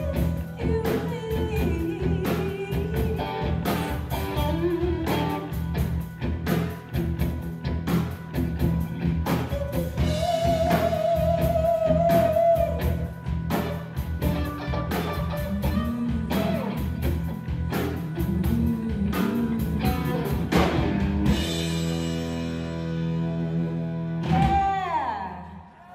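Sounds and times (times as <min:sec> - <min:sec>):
rock band playing: 0:00.0 - 0:25.2.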